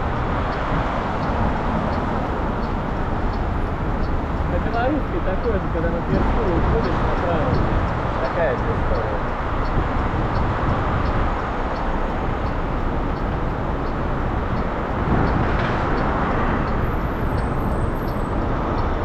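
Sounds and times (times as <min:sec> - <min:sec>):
road noise: 0:00.0 - 0:19.0
wind noise on microphone: 0:00.0 - 0:19.0.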